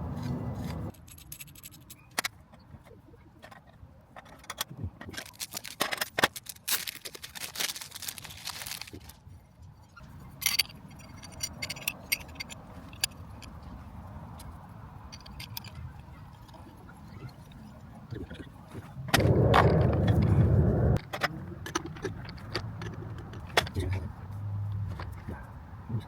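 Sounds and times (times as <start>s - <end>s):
objects clicking and scraping: 0.0s - 25.4s.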